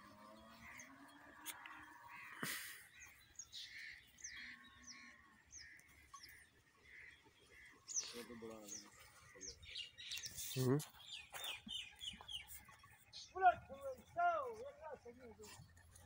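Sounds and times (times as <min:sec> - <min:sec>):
birds short repeated calls: 0:00.0 - 0:15.8.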